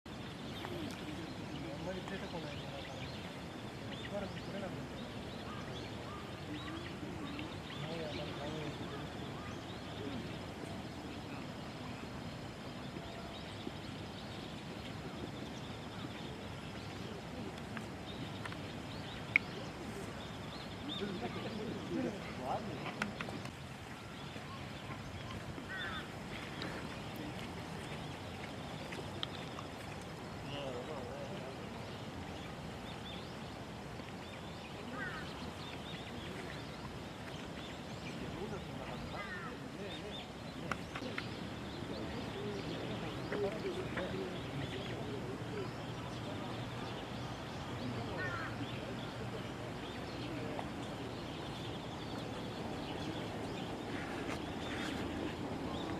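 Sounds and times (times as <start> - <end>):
outdoor background noise: 0.1 - 55.9
small birds chirping: 0.1 - 55.9.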